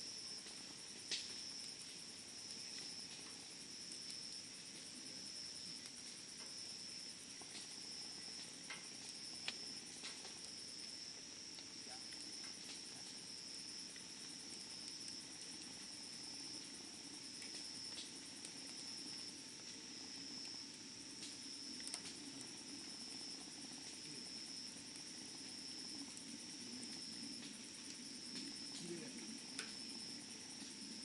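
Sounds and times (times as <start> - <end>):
campfire crackling: 0.0 - 31.0
crickets trilling: 0.0 - 31.0.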